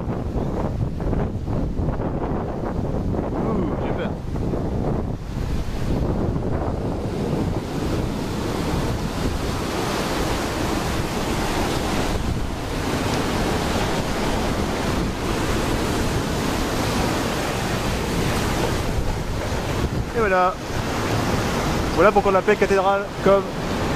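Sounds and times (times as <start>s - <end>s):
ocean waves breaking on beach: 0.0s - 23.9s
wind buffeting microphone: 0.0s - 23.9s.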